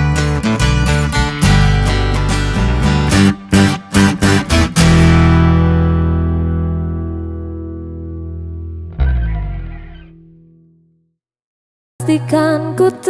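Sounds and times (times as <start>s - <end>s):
acoustic guitar strumming chords: 0.0s - 10.5s.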